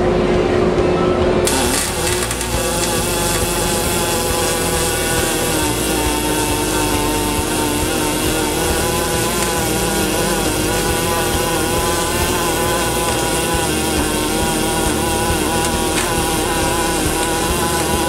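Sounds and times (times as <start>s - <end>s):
welding arc crackling: 1.4s - 18.0s.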